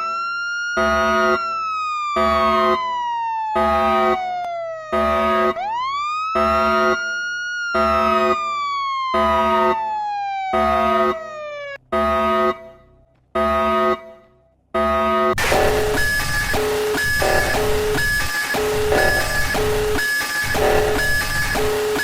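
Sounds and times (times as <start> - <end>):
rising and falling siren tone: 0.0 - 12.8, 13.4 - 22.0
blaring pulsed alarm tone: 0.0 - 22.0.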